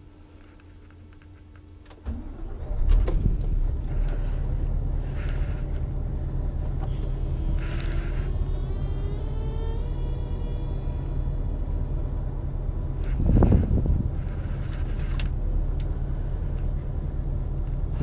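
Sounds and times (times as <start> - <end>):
diesel truck engine idling: 2.0 - 18.0
faint rising whine: 2.0 - 18.0.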